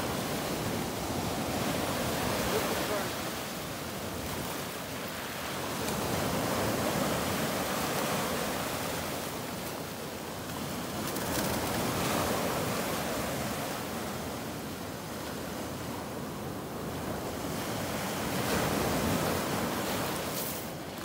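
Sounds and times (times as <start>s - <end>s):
surf washing over shelly beach: 0.0s - 21.0s.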